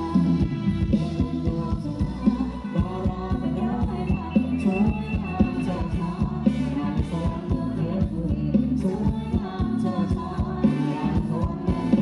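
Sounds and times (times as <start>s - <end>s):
person singing: 0.0s - 12.0s
steady drum beat: 0.0s - 12.0s.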